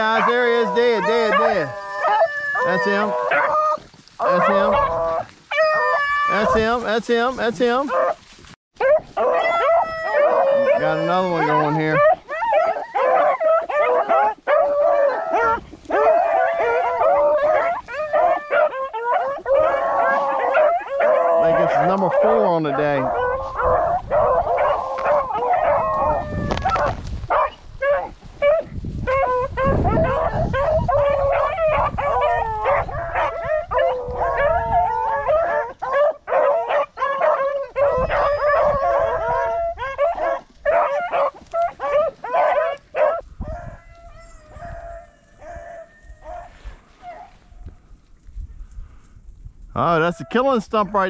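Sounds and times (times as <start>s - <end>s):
hounds baying and howling: 0.0s - 48.0s, 49.9s - 51.0s.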